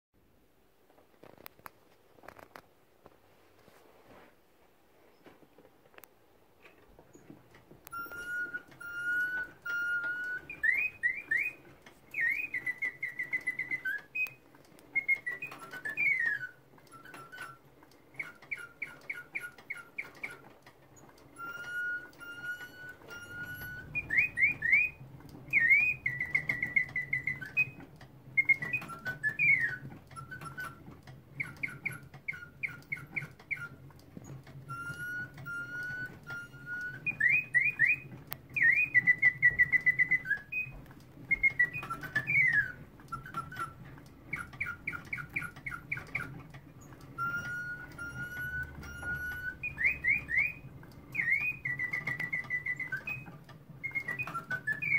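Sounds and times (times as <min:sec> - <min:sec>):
mechanical birdsong: 0:06.7 - 0:54.9.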